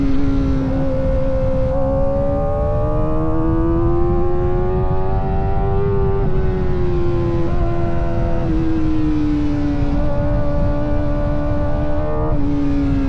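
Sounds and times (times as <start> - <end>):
motorcycle engine revving high: 0.0 - 13.0
wind noise: 0.0 - 13.0.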